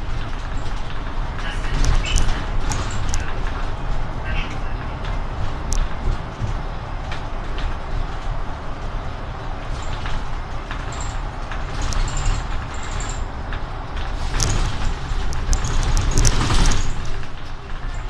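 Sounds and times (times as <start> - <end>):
bus engine and road rumble: 0.0 - 18.0
rattles and clicks: 0.0 - 18.0.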